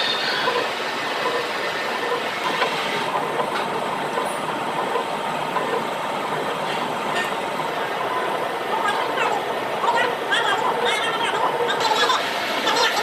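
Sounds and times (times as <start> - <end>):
mechanical running noise: 0.0 - 13.0.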